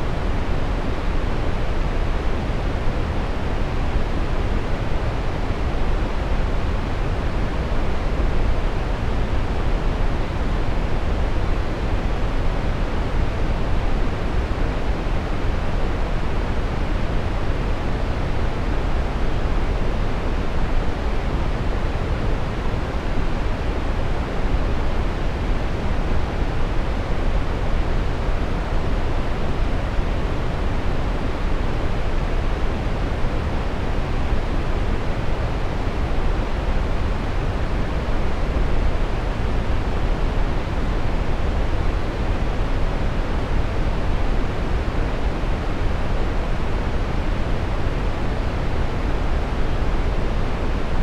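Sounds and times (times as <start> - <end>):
brown noise rushing hiss: 0.0 - 51.0.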